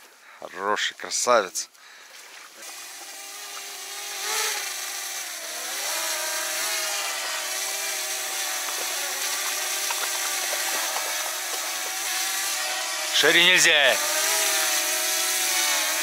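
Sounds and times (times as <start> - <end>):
drone propellers buzzing: 2.6 - 16.0.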